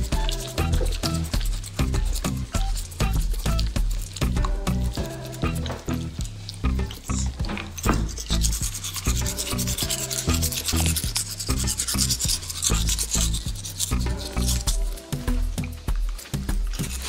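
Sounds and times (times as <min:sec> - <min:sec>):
background music with bass line: 0:00.0 - 0:17.0
toothbrush scrubbing teeth: 0:00.0 - 0:17.0.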